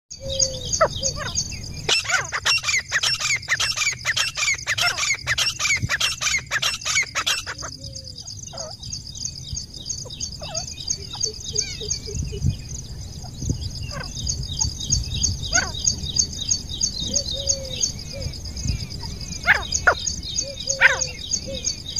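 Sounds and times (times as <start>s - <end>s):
francolin calling: 0.1s - 21.9s.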